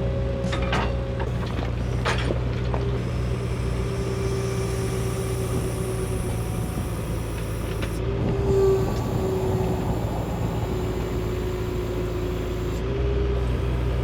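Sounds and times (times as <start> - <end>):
engine idling: 1.1 - 14.0.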